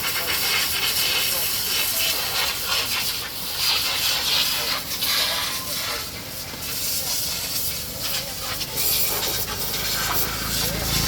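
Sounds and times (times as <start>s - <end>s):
pressure washer spraying: 0.0s - 11.0s.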